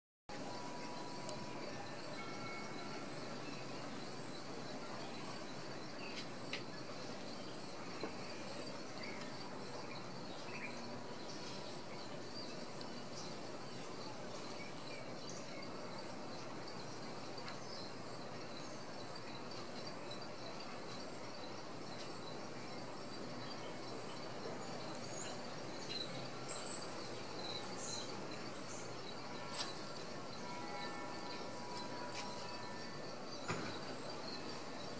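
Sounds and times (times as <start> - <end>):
outdoor background noise: 0.3 - 34.9
steady background hiss: 0.3 - 34.9.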